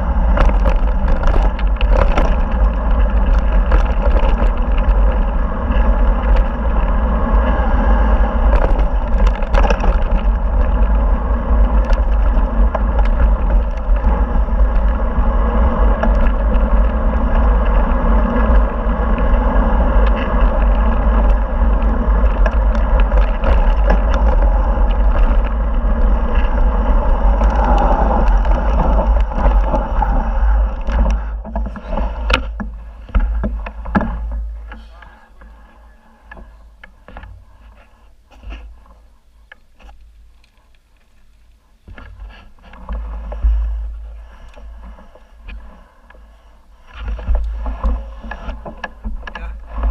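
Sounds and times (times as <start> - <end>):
tyres crunching on gravel: 0.0 - 46.1
bike rattling: 0.0 - 49.9
wind rumble on microphone: 0.0 - 49.9.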